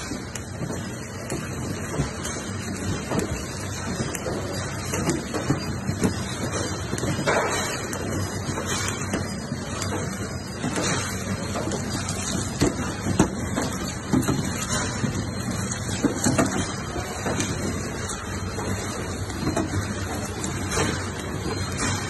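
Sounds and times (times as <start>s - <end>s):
machine clicks and knocks: 0.0s - 22.0s
packaging machine humming: 0.0s - 22.0s.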